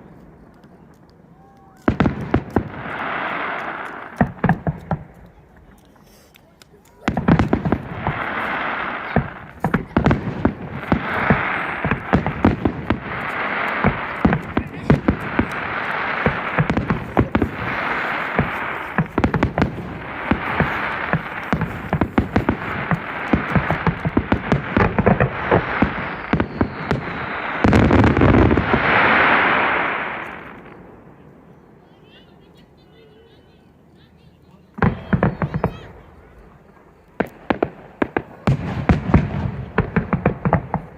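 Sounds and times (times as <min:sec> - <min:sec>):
fireworks bangs: 0:00.0 - 0:40.9
fireworks crackling hiss: 0:00.0 - 0:40.9.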